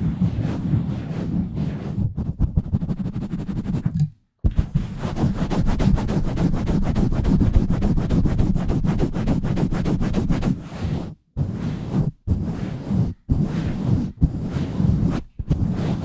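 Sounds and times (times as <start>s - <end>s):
fingers scratching microphone windscreen: 0.0s - 16.0s.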